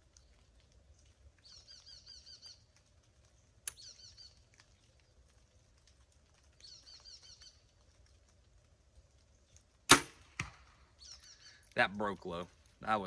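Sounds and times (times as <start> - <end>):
songbird chirping faintly: 0.0 - 13.0.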